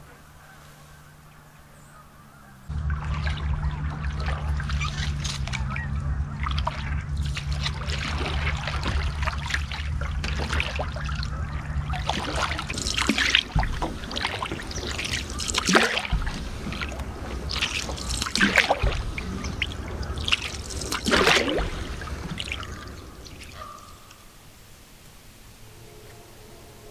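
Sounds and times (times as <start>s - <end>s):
canoe paddle strokes in water: 0.0s - 24.4s
low steady hum: 0.0s - 26.9s.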